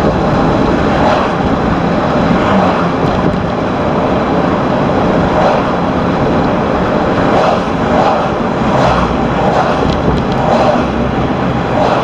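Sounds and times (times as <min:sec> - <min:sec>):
road and wind noise in vehicle: 0:00.0 - 0:12.0.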